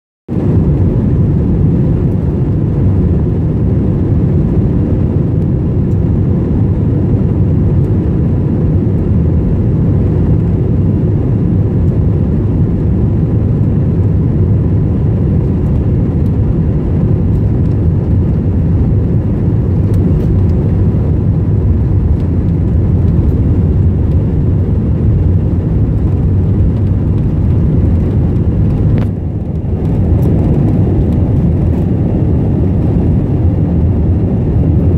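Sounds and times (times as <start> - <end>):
jet engine rumble in cabin: 0.3 - 34.9.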